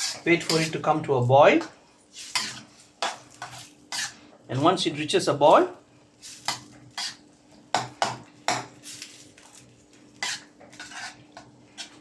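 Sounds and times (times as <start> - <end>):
utensil scraping against wok: 0.0 - 4.8, 5.4 - 7.9, 8.5 - 12.0.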